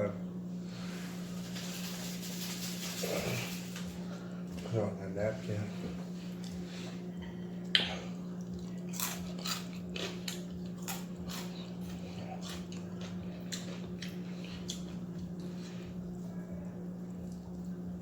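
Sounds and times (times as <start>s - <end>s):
steady low hum: 0.0s - 18.0s
chewing crunchy fried food: 1.1s - 4.7s, 5.9s - 18.0s.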